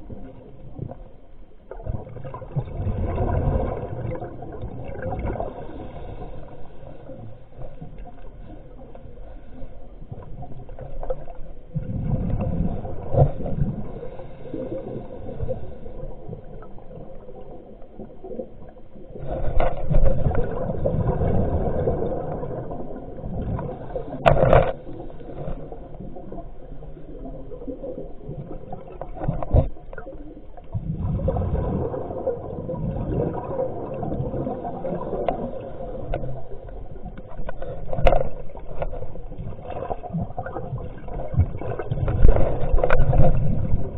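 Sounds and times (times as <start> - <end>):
muffled underwater water noise: 0.0 - 43.9
bubbling gurgling surges: 1.7 - 7.2, 10.1 - 24.3, 24.9 - 37.4, 38.4 - 43.9.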